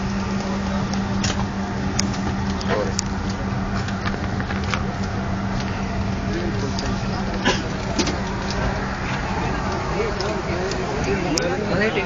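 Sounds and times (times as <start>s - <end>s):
airliner ventilation hum: 0.0s - 12.0s
faint murmur of passengers: 0.0s - 12.0s.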